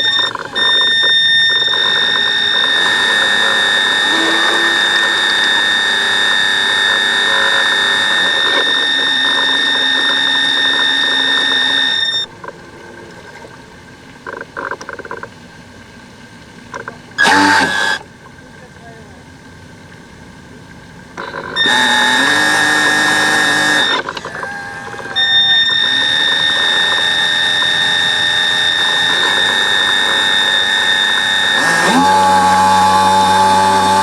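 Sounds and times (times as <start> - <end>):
model boat electric motor whine: 0.0 - 34.0.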